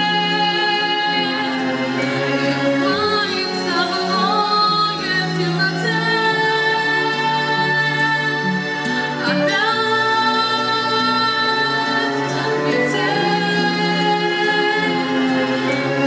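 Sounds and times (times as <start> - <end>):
woman singing with vibrato: 0.0 - 2.1, 2.8 - 16.0
backing music: 0.0 - 16.0.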